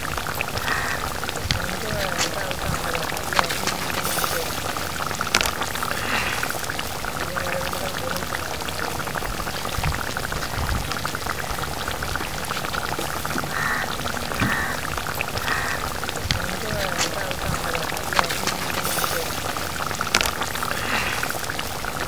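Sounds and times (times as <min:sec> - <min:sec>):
curry bubbling in a pan: 0:00.0 - 0:22.0.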